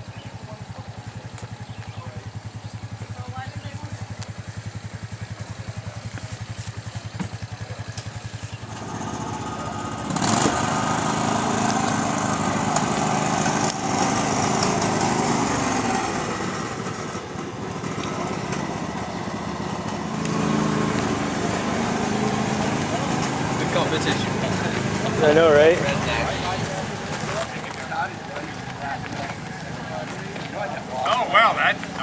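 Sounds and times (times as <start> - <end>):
lawn mower engine: 0.0 - 32.0.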